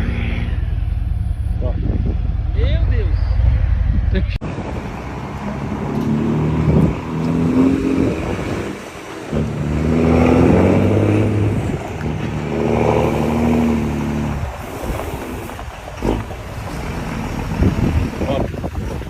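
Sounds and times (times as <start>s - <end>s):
truck diesel engine accelerating: 0.0s - 19.0s.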